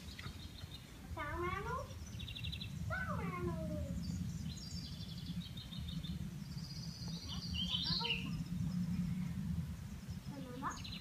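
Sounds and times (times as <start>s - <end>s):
birds chirping and trilling: 0.0s - 11.0s
steady low rumble: 0.0s - 11.0s.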